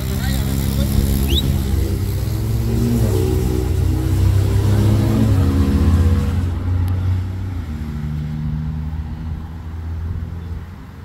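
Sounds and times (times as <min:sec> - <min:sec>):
vehicle engine passing: 0:00.0 - 0:10.4.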